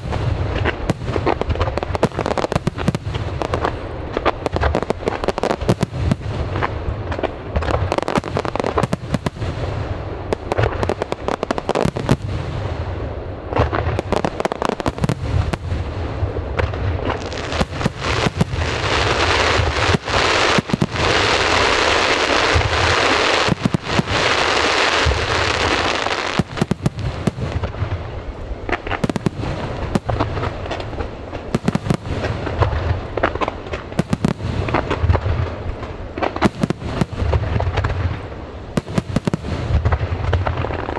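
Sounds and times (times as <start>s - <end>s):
fireworks bangs and crackle: 0.0s - 40.9s.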